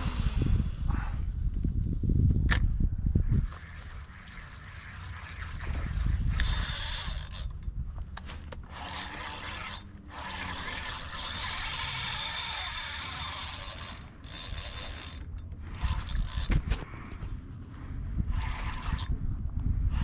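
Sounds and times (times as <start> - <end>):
fishing reel drag ratcheting: 0.0 - 1.6, 3.4 - 17.3, 18.2 - 19.2.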